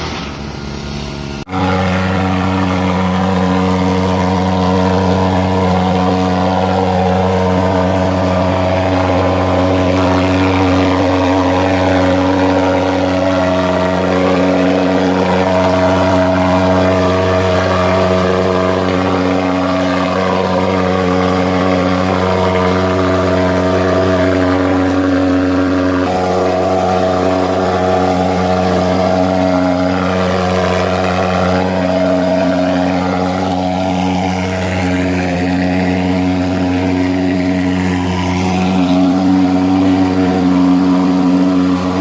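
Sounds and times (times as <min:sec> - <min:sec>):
fogging machine droning: 0:00.4 - 0:42.0.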